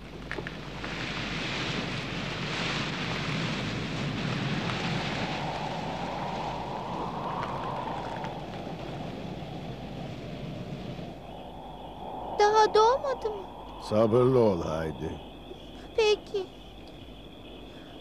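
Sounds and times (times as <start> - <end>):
wind rushing: 0.6 - 15.8.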